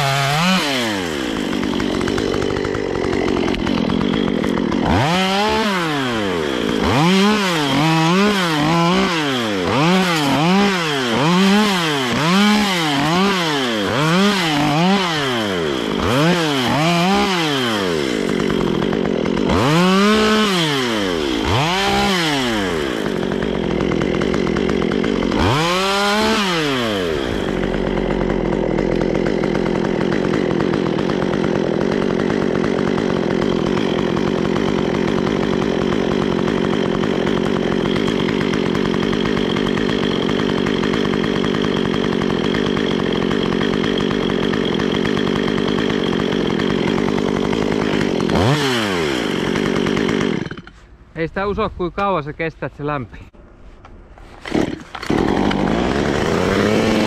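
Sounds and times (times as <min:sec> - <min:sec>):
chainsaw revving and cutting: 0:00.0 - 0:50.8, 0:54.3 - 0:57.0.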